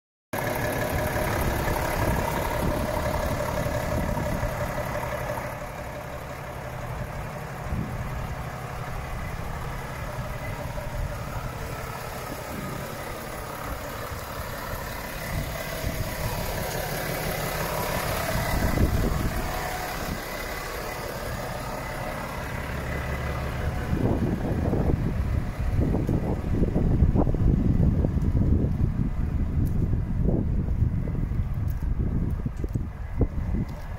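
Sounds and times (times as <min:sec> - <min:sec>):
diesel truck engine idling: 0:00.3 - 0:33.9.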